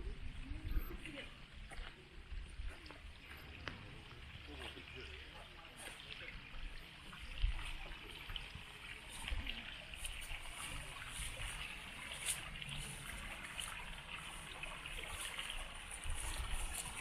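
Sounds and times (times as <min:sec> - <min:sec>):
wind rumbling on microphone: 0:00.0 - 0:04.3, 0:06.3 - 0:17.0
stream babbling: 0:00.0 - 0:17.0.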